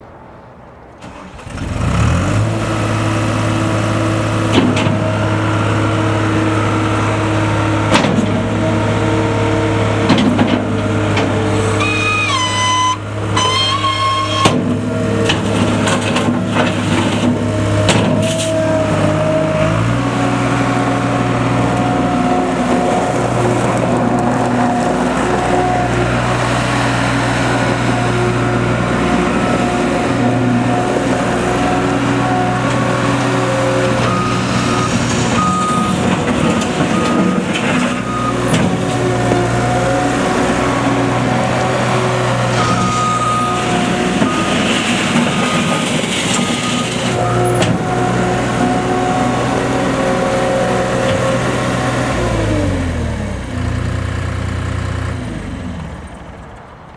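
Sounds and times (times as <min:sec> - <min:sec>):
diesel engine running: 0:01.0 - 0:56.9.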